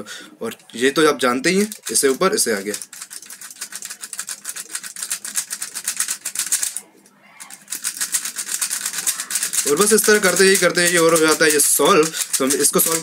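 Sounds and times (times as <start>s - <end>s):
speed cube clicking: 1.5s - 6.8s, 7.5s - 13.0s.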